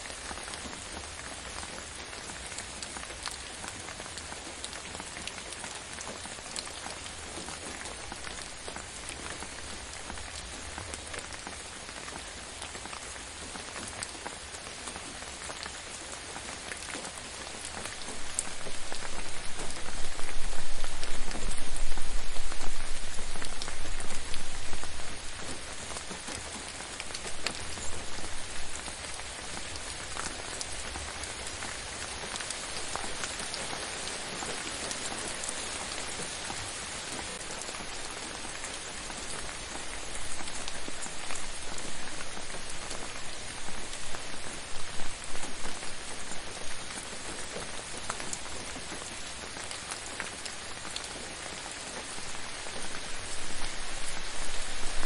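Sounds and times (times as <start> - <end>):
rain drops striking a surface: 0.0 - 55.0.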